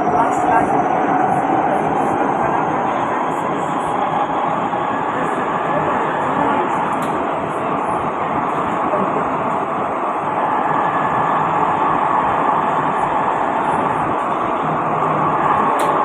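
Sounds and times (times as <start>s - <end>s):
faint steady whine: 0.0s - 16.0s
train interior rushing noise: 0.0s - 16.0s.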